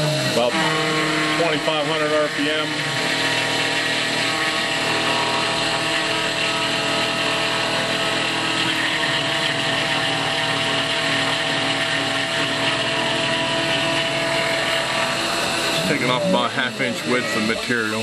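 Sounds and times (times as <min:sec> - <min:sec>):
milling machine cutting steel: 0:00.0 - 0:18.0.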